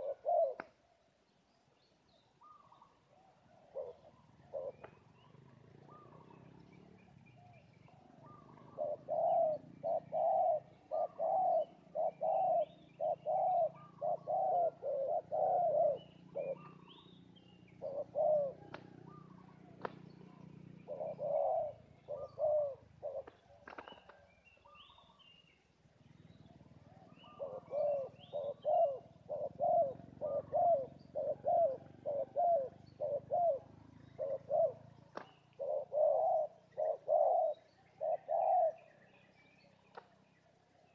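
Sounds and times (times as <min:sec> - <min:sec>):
doves cooing: 0:00.0 - 0:00.8, 0:02.4 - 0:25.4, 0:26.0 - 0:40.1
small birds chirping: 0:00.0 - 0:40.9.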